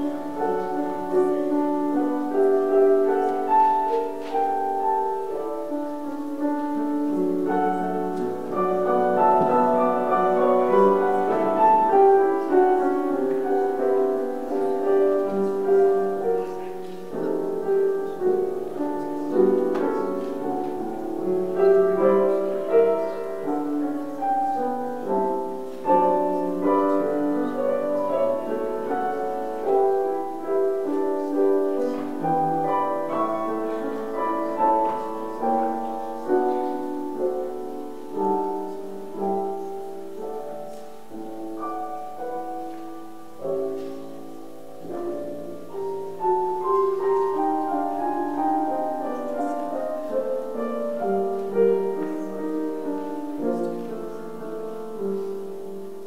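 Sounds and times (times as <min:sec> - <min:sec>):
gentle piano piece: 0:00.0 - 0:56.0.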